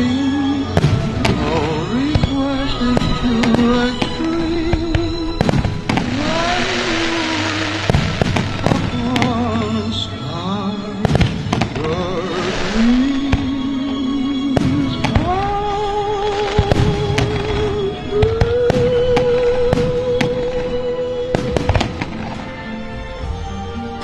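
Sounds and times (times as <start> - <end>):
firework crackling: 0.0 - 23.1
music with held notes: 0.0 - 24.0
firework shells booming: 0.7 - 10.0, 11.0 - 23.0.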